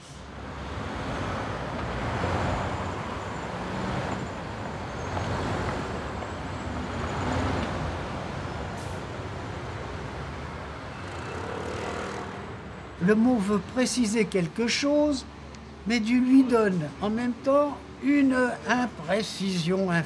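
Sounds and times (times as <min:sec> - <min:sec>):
cars passing on street: 0:00.0 - 0:20.0.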